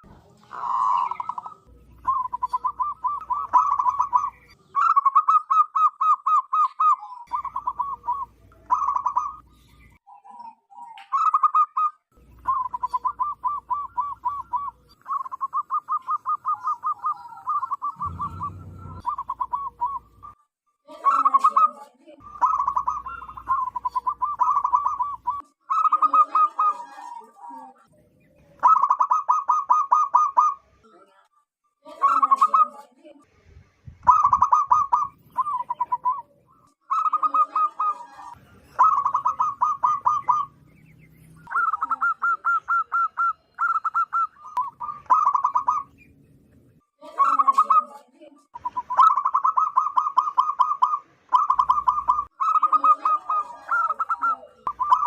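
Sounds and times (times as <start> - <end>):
doves cooing rapidly: 0.0 - 9.5, 10.4 - 20.4, 21.0 - 27.4, 28.5 - 30.6, 34.0 - 46.0, 48.6 - 55.0.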